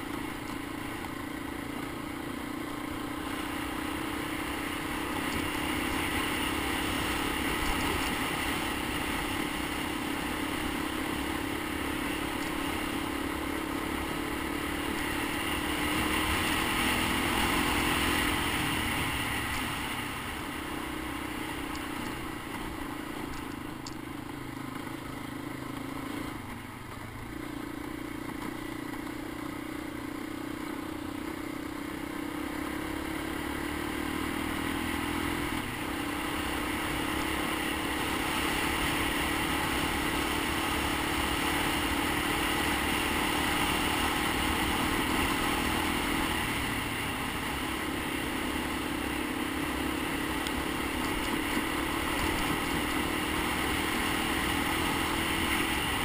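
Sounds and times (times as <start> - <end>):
three-wheeler engine running: 0.0 - 56.0.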